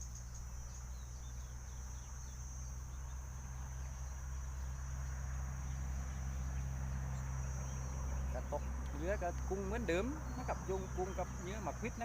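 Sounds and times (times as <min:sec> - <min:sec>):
insects droning: 0:00.0 - 0:12.0
steady low hum: 0:00.0 - 0:12.0.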